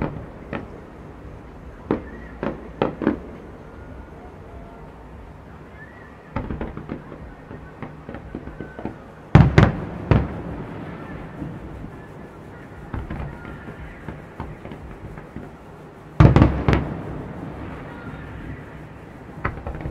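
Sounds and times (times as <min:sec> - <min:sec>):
fireworks exploding: 0:00.0 - 0:19.9.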